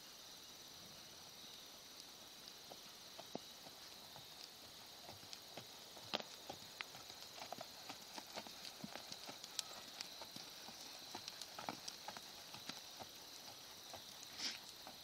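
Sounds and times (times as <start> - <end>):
horse hoofbeats on sand: 2.7 - 15.0.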